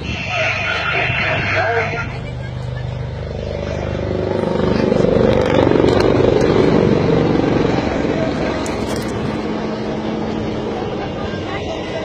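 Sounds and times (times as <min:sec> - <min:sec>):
helicopter rotor chop and turbine: 0:00.0 - 0:12.0.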